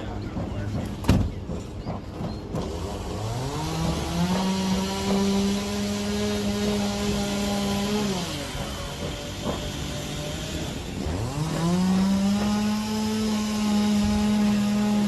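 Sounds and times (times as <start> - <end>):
chainsaw engine revving: 2.7 - 15.0.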